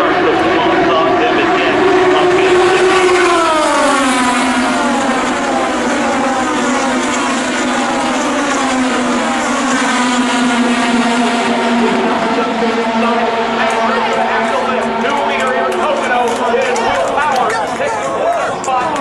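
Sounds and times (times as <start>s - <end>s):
race car engines at speed: 0.0s - 19.0s.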